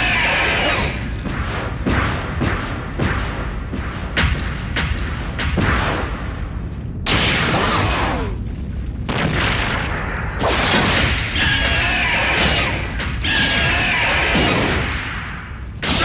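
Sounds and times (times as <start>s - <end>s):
booming impacts: 0.0s - 16.0s.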